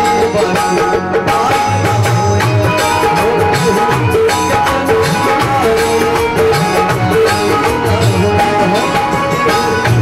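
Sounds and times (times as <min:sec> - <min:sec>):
live band instrumental music: 0:00.0 - 0:10.0.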